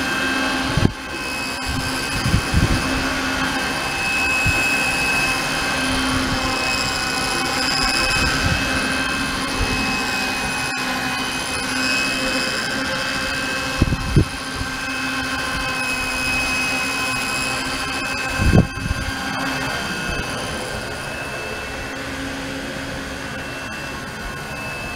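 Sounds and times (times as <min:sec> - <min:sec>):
model helicopter rotor whine: 0:00.0 - 0:24.9.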